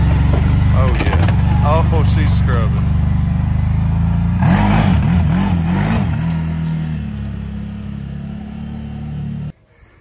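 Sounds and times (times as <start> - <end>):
atv engine revving: 0.0 - 9.5.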